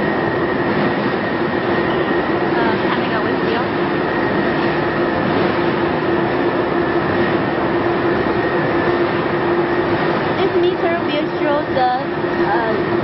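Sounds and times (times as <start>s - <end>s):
constant hum: 0.0s - 13.0s
furnace machinery drone: 0.0s - 13.0s.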